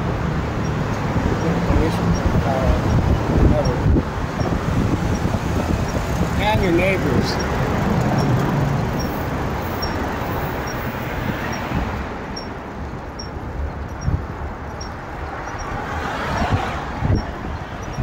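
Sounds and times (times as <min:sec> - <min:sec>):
cars going by: 0:00.0 - 0:18.0.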